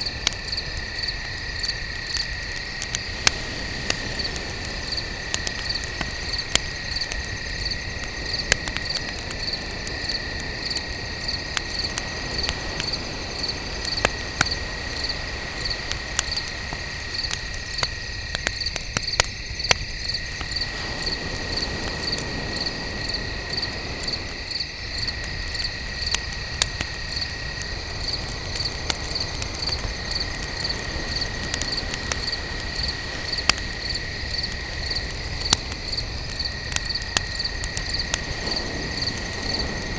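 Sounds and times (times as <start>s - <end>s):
crickets chirping: 0.0s - 39.9s
high insect trill: 0.0s - 39.9s
wood fire crackling: 0.0s - 39.9s.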